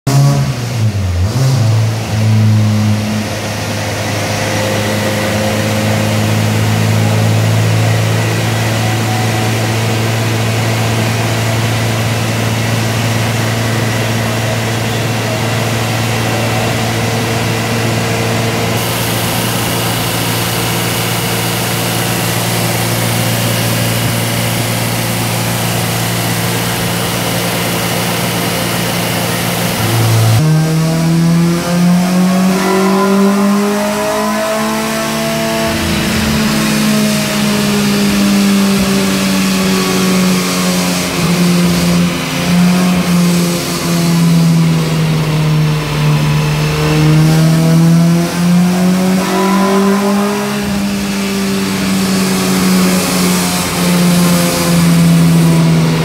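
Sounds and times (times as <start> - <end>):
car engine running steadily: 0.1 - 32.5, 33.4 - 49.2, 50.0 - 56.0.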